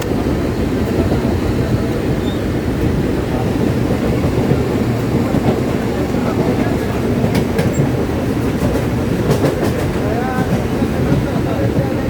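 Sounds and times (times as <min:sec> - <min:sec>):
passengers' voices: 0:00.0 - 0:12.0
train rumble from inside carriage: 0:00.0 - 0:12.0.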